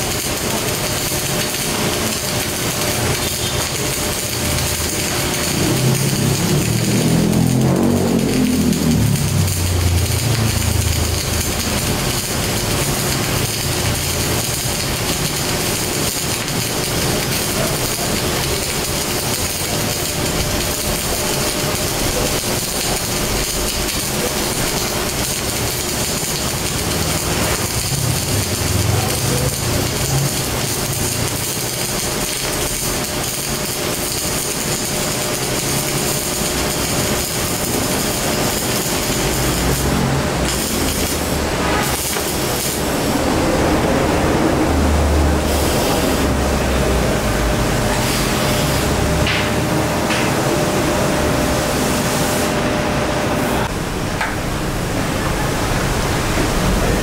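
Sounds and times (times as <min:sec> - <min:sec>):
welding hiss: 0:00.0 - 0:52.7.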